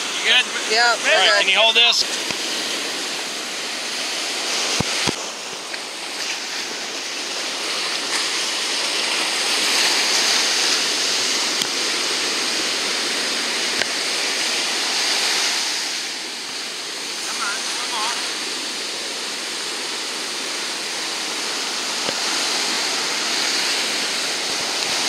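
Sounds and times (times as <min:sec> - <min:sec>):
ocean surf washing up beach: 0:00.0 - 0:25.0.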